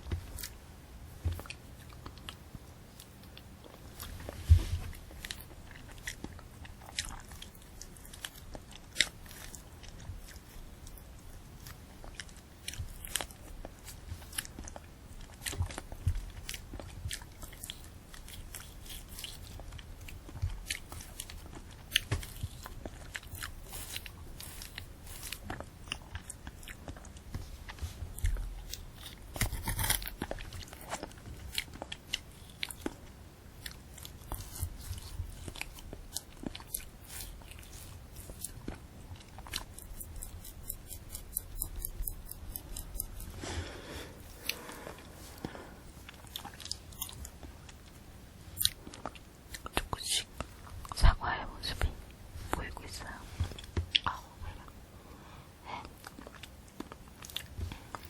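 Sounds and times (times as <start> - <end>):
wet chewing: 0.0 - 55.2, 55.8 - 58.0
candy apple crunching: 0.0 - 58.0.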